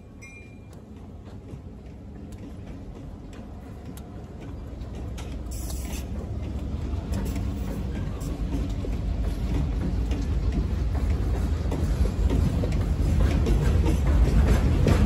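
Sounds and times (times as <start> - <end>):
diesel locomotive low rumble: 0.0 - 15.0.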